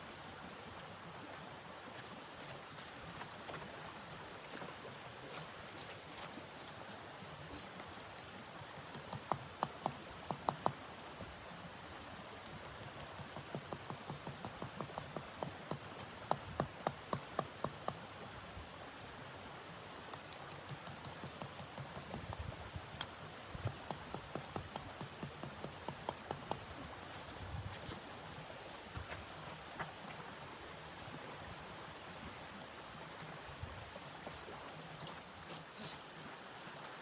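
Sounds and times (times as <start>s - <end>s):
faint steady hiss: 0.0s - 37.0s.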